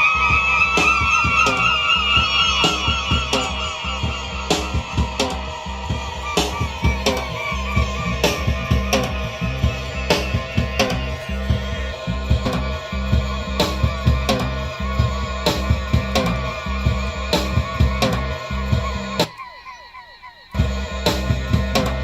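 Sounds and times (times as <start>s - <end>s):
fake bird chirps: 0.0s - 12.1s, 15.5s - 21.6s
bass: 0.0s - 19.4s, 20.5s - 22.0s
drum beat: 0.0s - 19.9s.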